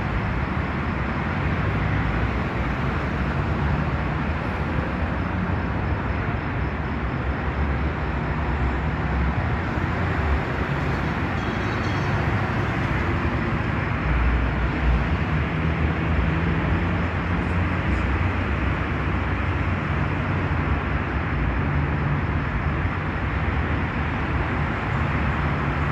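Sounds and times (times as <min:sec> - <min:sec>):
outdoor background rumble and hiss: 0:00.0 - 0:25.9.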